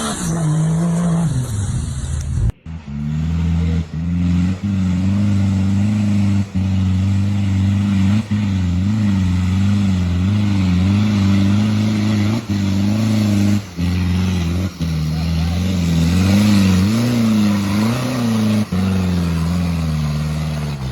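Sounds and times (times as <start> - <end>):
off-road vehicle engine revving: 0.0 - 20.9.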